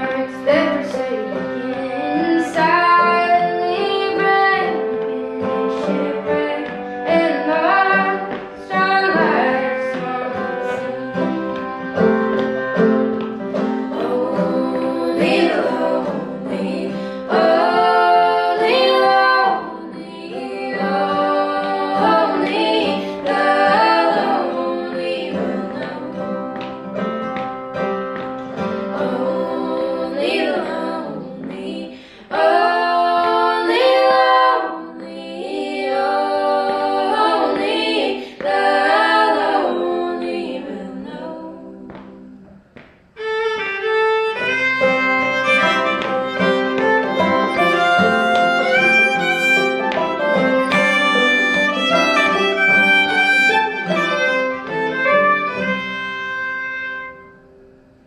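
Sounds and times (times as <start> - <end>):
women singing in harmony: 0.0 - 12.1, 13.2 - 26.9, 28.6 - 42.6, 45.5 - 55.7
fiddle: 0.0 - 42.1, 43.2 - 57.5
banjo: 0.0 - 42.6, 43.2 - 57.4
acoustic guitar: 0.0 - 58.0.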